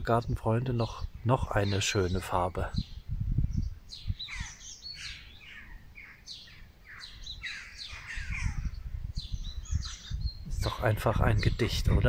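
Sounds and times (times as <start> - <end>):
low wind rumble on microphone: 0.0 - 12.0
songbirds singing: 0.0 - 12.0.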